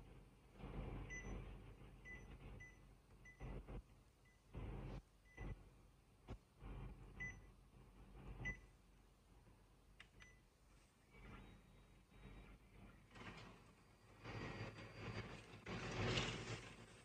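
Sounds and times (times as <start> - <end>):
copier running faintly: 0.0 - 17.0.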